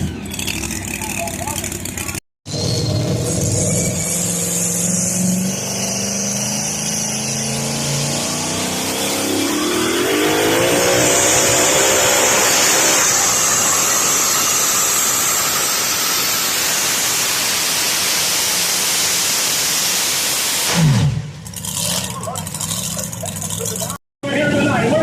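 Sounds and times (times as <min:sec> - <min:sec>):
truck engine revving at full throttle: 0:00.0 - 0:25.0.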